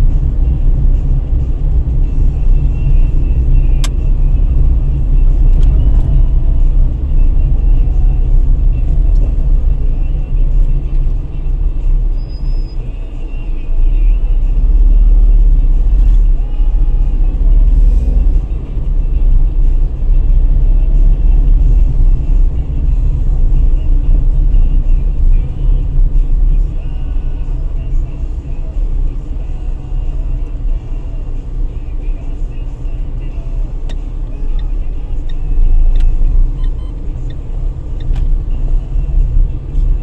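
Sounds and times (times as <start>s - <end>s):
low rumble of road and engine: 0.0s - 40.0s.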